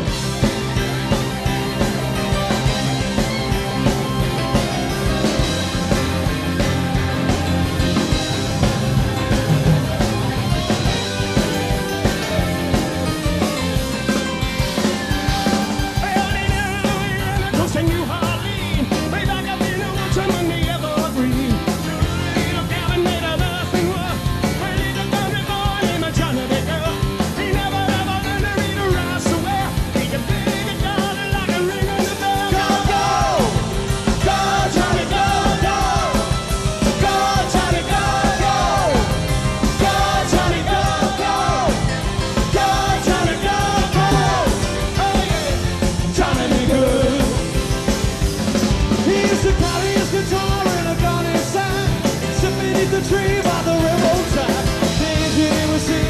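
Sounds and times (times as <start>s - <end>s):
lead singer singing: 0.0s - 56.0s
rock and roll band playing: 0.0s - 56.0s.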